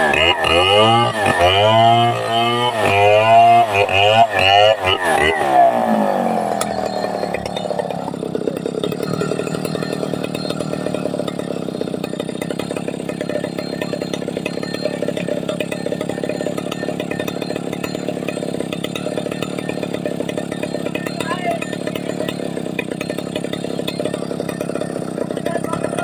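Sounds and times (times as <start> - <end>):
chainsaw running at high revs: 0.0 - 26.0.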